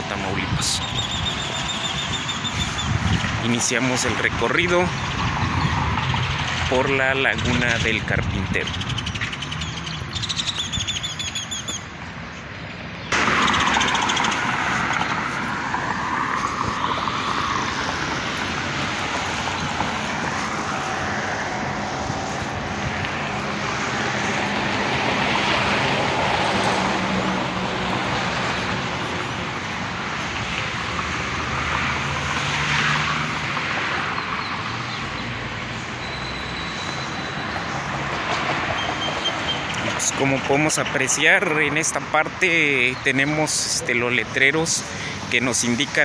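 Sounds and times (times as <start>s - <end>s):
passing motor traffic: 0.0s - 46.0s.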